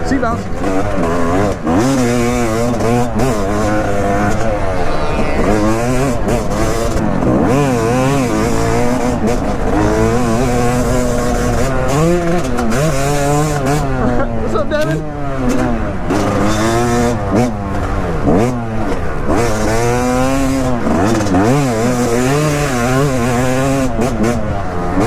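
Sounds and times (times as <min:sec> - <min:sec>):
two-stroke motorbike engine revving: 0:00.0 - 0:25.0.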